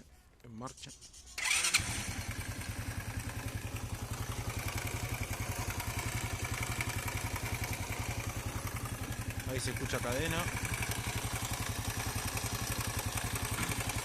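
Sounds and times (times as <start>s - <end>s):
engine knocking: 1.4s - 14.0s
motorcycle engine starting and idling: 1.4s - 14.0s.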